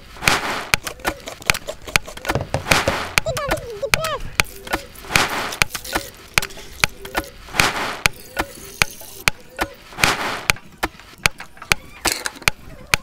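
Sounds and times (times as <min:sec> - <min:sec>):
sharp chopping knocks: 0:00.2 - 0:13.0.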